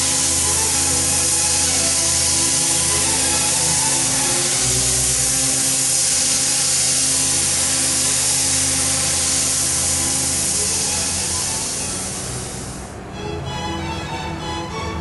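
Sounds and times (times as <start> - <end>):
metal cutting noise: 0.0 - 12.9
coolant spray hissing: 0.0 - 13.0
machine hum: 0.0 - 15.0.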